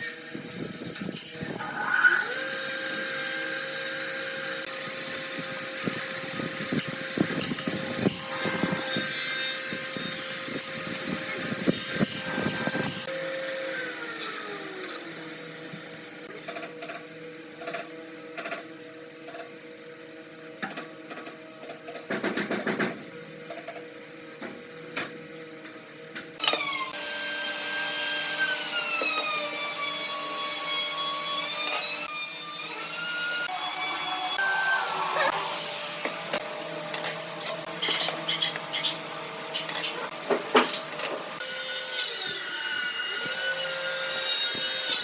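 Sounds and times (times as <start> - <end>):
power tool motor whining: 0.1 - 18.4, 26.4 - 45.0.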